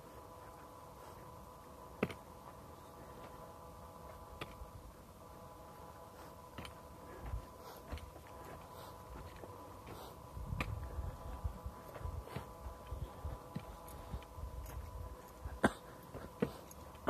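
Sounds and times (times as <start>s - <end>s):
faint steady hum: 0.0s - 17.0s
footsteps on dirt trail: 0.0s - 17.0s.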